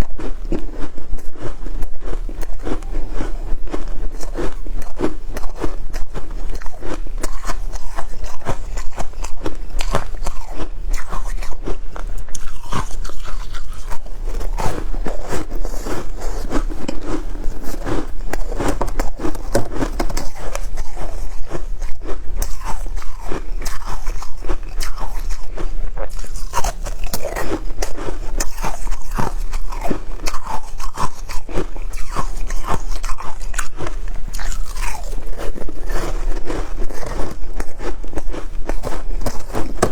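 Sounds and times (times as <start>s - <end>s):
ice crunching as chewed: 0.0s - 39.9s.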